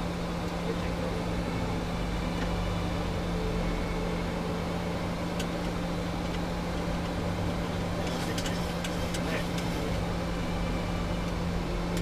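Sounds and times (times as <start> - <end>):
aircraft engines droning: 0.0 - 12.0
constant low hum: 0.0 - 12.0.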